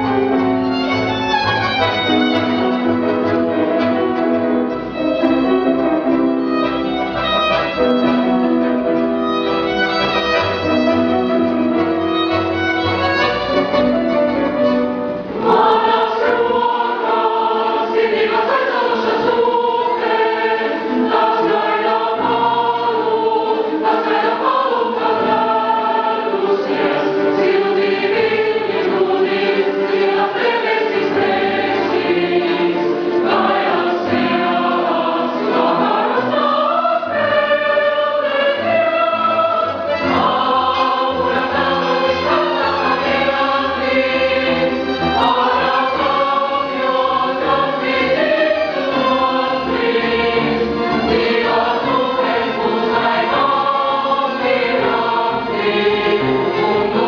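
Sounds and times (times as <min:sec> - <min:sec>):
choir singing held notes: 0:09.7 - 0:57.0.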